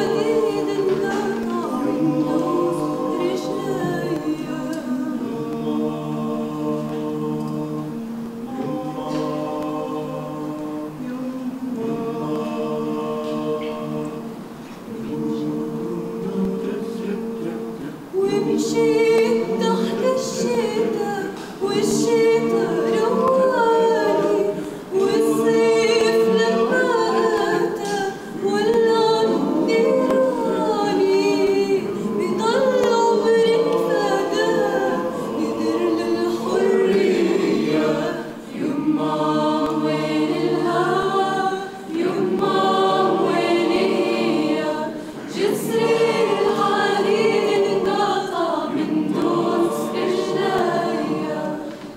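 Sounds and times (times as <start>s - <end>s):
mixed choir singing a cappella: 0.0s - 51.9s.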